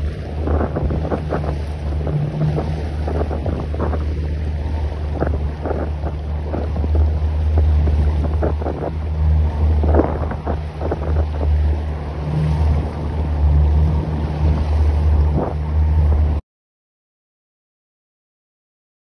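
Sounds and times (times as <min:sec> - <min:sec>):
water slapping against hull: 0:00.0 - 0:16.4
wind rumbling on microphone: 0:00.0 - 0:16.4.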